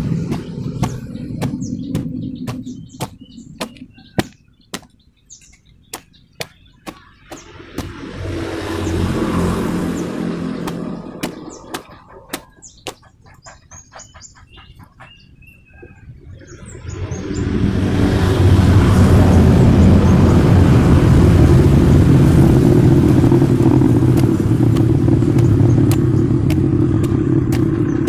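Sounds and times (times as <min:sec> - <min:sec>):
motor vehicle passing: 0:00.0 - 0:04.0, 0:06.5 - 0:15.2, 0:16.5 - 0:28.0
small birds chirping: 0:00.0 - 0:20.6, 0:22.1 - 0:28.0.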